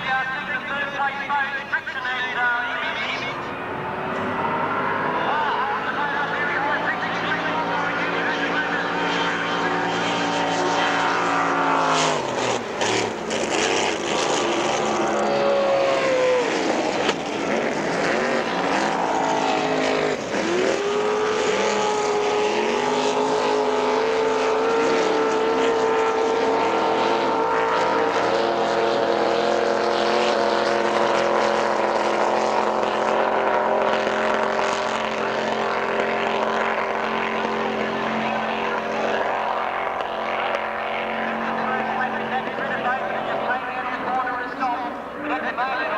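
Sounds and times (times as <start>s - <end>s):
racing powerboat engines: 0.0s - 45.9s.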